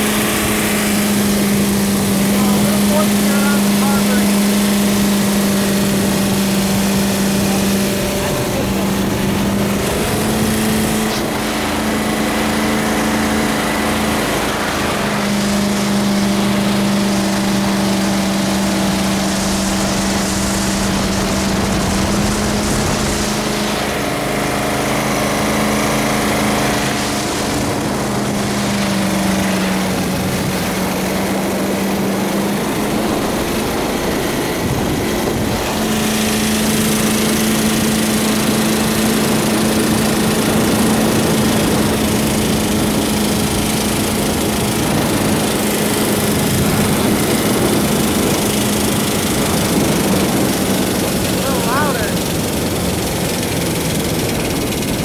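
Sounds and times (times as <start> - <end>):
boat engine running: 0.0 - 55.0
rushing water: 0.0 - 55.0
wind: 0.0 - 55.0.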